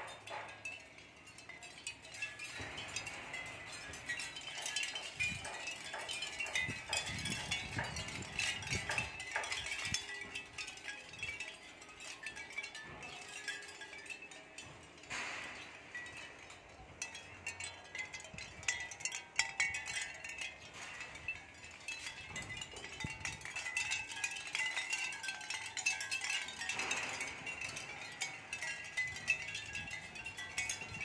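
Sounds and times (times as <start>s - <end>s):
shell wind chime clinking: 0.0s - 31.0s.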